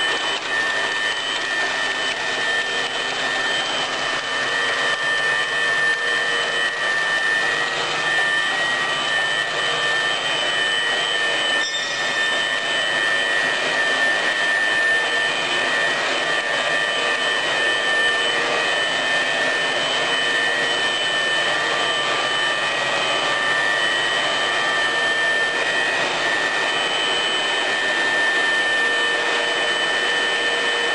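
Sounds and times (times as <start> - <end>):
wire cutting machine whining: 0.0 - 30.9.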